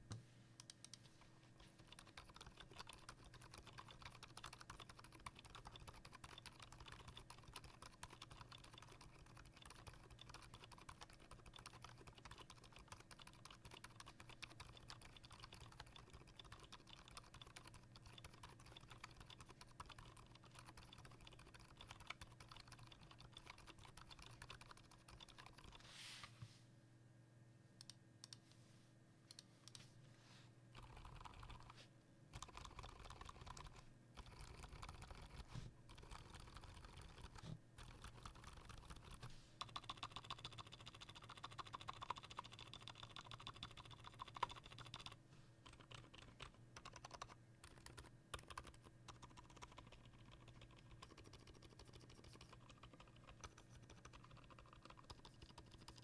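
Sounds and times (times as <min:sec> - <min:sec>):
typing on mechanical keyboard: 0:01.7 - 0:25.8, 0:30.8 - 0:31.7, 0:32.3 - 0:56.0.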